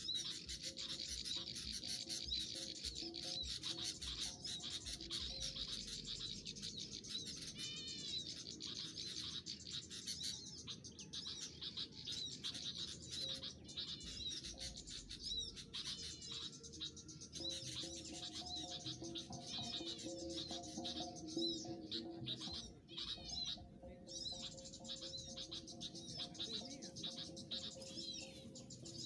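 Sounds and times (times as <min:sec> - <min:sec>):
songbirds chirping: 0:00.0 - 0:29.0
trilled bird calls: 0:00.0 - 0:29.0.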